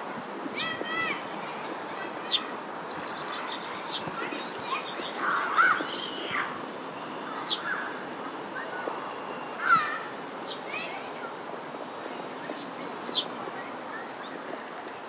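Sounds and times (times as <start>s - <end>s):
wind hiss: 0.0s - 15.0s
birds singing and chirping: 0.2s - 14.4s.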